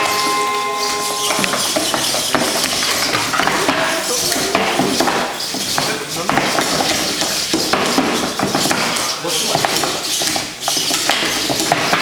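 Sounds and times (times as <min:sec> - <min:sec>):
voices chattering: 0:00.0 - 0:10.2.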